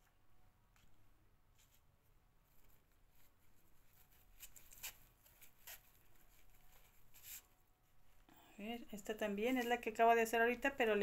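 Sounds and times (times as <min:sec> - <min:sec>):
soft fabric rustles: 0:00.0 - 0:11.0.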